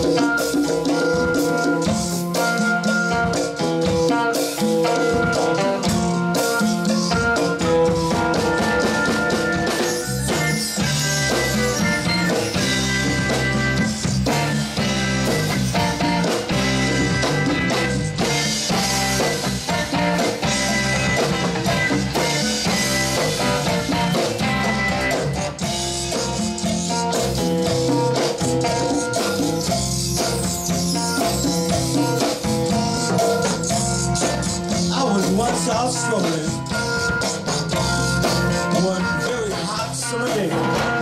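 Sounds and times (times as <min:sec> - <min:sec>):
bass: 0:00.0 - 0:41.0
drum kit beat: 0:00.0 - 0:41.0
guitar: 0:00.0 - 0:41.0.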